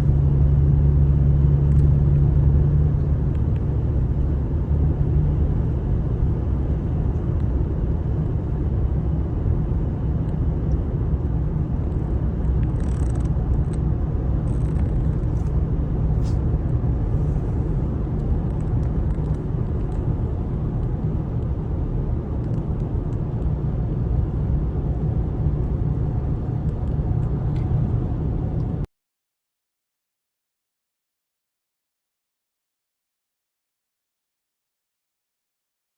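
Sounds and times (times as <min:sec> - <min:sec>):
car driving from inside cabin: 0:00.0 - 0:28.9.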